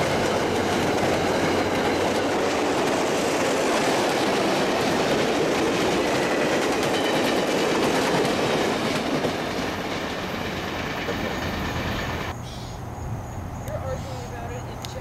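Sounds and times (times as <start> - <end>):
train wheels rolling on rail: 0.0 - 12.4.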